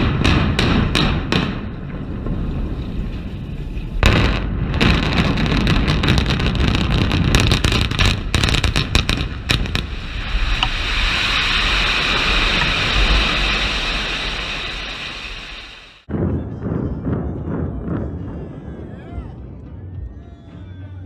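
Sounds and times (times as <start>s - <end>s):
building collapsing rumble: 0.0s - 20.2s.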